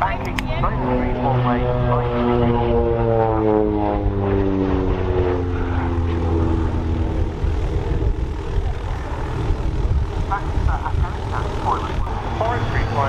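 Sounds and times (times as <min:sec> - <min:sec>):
turboprop plane flying past: 0:00.0 - 0:13.0.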